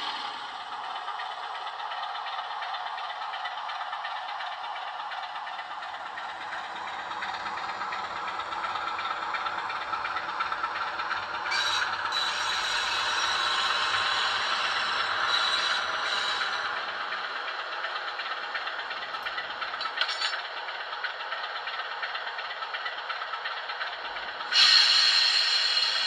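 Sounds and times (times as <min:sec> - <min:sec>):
fine rapid wheel clatter: 0:00.0 - 0:26.0
model train diesel engine sound: 0:00.0 - 0:26.0.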